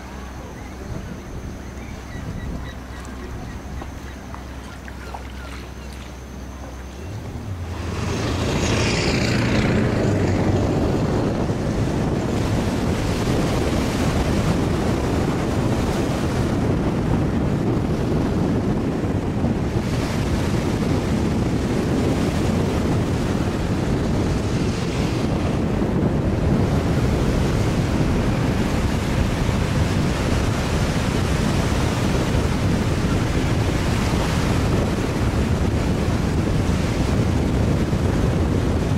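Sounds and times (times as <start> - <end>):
wind blowing on microphone: 0.0 - 38.9
small waves washing onto shore: 1.7 - 18.4, 19.5 - 38.9.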